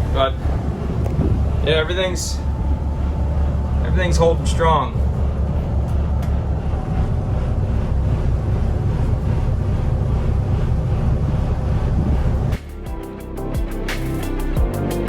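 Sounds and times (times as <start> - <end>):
boat engines rumbling: 0.0 - 14.6.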